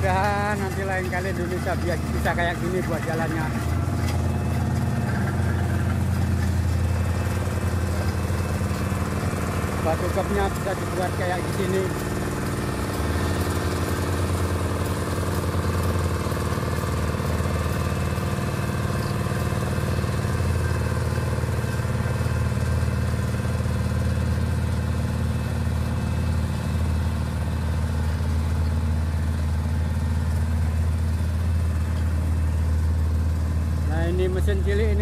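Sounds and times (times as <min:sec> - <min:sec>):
small engine droning: 0:00.0 - 0:35.0.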